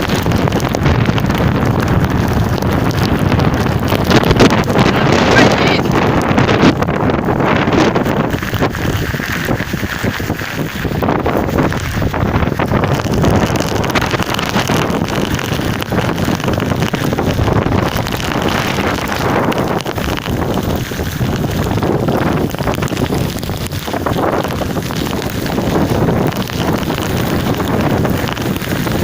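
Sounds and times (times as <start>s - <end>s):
storm wind buffeting microphone: 0.0s - 29.0s.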